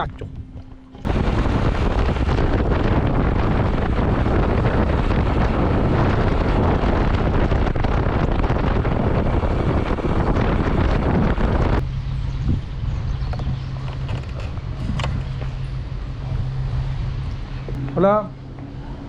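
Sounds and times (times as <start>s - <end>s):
low hum: 0.0s - 19.0s
road noise: 0.0s - 19.0s
wind buffeting microphone: 0.0s - 19.0s
motorcycle engine: 0.3s - 19.0s.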